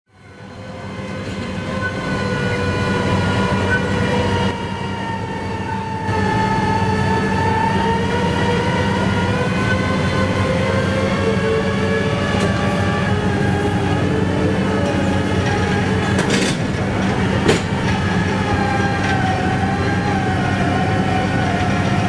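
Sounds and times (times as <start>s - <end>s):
high machine whine: 0.1s - 22.0s
low engine drone: 0.1s - 22.0s.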